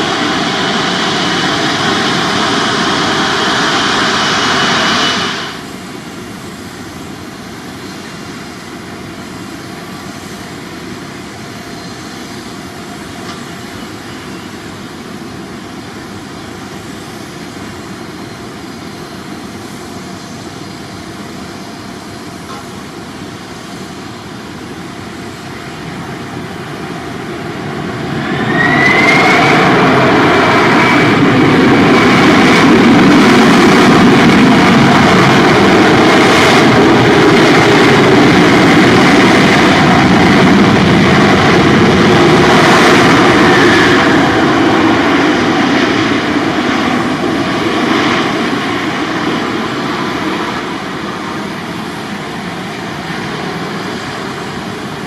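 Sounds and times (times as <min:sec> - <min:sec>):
high jet engine whine: 0:00.0 - 0:55.0
jet engines rumbling: 0:00.0 - 0:55.0.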